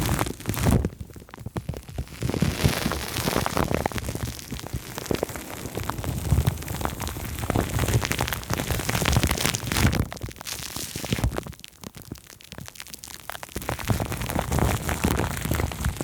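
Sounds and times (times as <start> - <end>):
plastic film and foam crinkling: 0.0 - 16.0.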